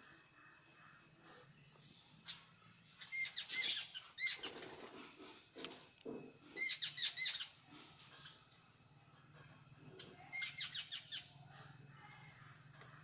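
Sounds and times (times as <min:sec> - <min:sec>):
birds chattering harshly: 0:00.0 - 0:05.8, 0:06.5 - 0:13.0.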